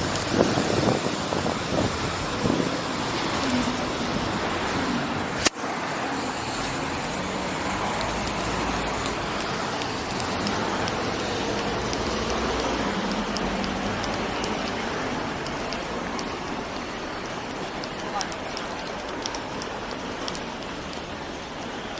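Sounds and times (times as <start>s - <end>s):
passing road traffic hiss: 0.0s - 21.9s.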